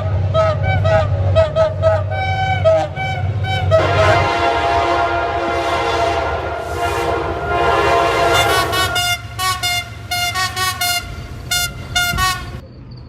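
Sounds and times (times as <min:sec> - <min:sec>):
train horn: 0:00.0 - 0:12.6
train rumbling by: 0:00.0 - 0:13.0.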